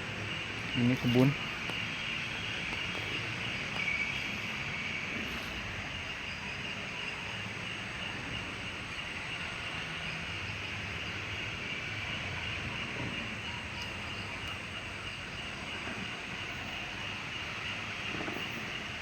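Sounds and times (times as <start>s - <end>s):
night insects chorus: 0.0s - 19.0s.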